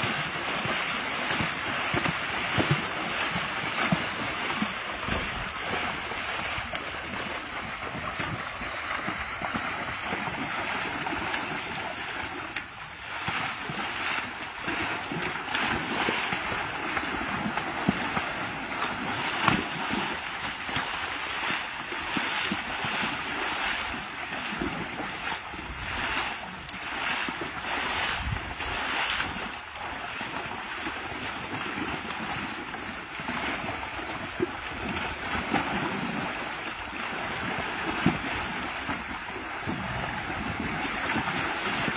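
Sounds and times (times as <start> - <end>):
wind on microphone: 0.0 - 32.1, 33.5 - 41.9
water splashing and rushing: 0.0 - 41.9.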